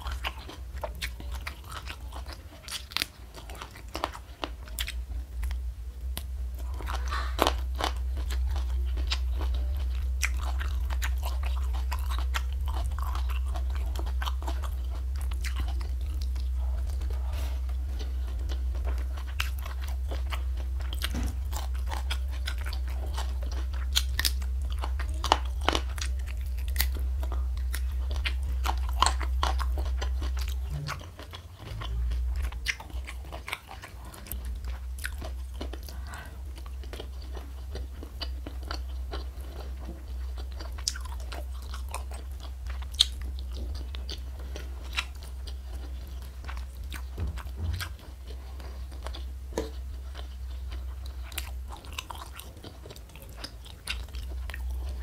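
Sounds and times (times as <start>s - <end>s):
chewing crunchy food: 0.0s - 55.0s
low rumble: 0.0s - 55.0s.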